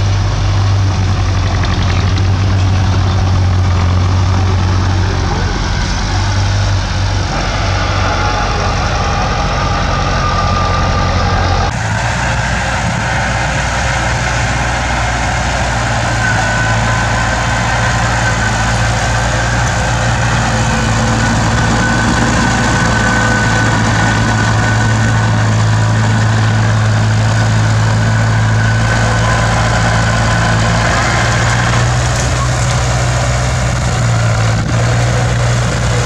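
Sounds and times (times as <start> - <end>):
bulldozer diesel engine running: 0.0 - 36.0
thin high whine: 0.0 - 36.0.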